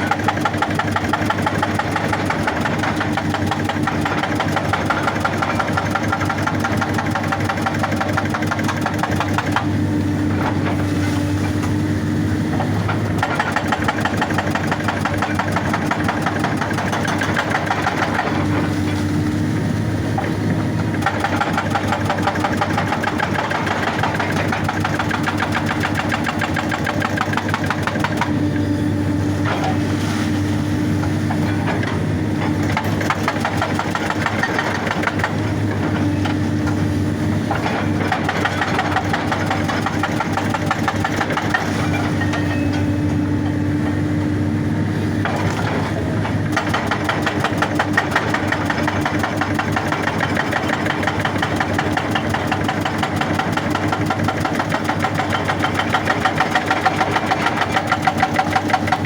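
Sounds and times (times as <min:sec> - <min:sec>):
diesel engine running: 0:00.0 - 0:59.0
hydraulic rock breaker hammering: 0:00.0 - 0:59.0.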